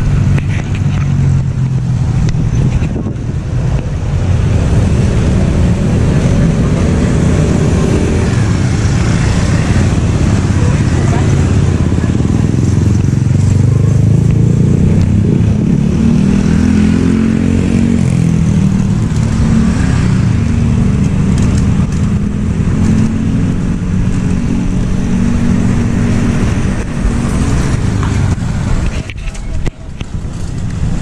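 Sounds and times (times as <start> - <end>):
motorcycle and car traffic passing: 0.0 - 31.0.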